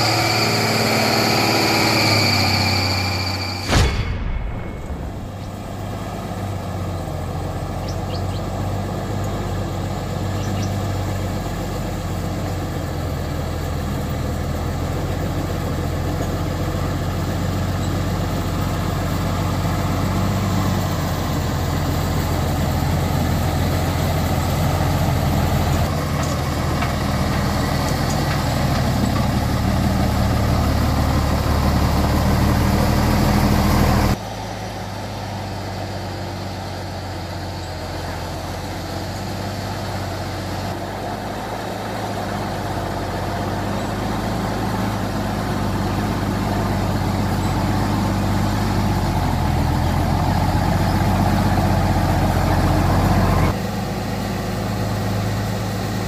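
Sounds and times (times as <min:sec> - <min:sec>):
road noise: 0:00.0 - 0:56.0
vehicle engine humming: 0:00.0 - 0:56.0.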